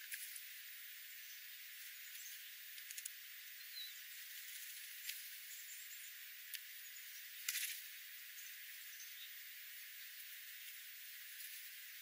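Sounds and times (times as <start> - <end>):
small birds chirping: 0.0 - 12.0
steady hiss: 0.0 - 12.0.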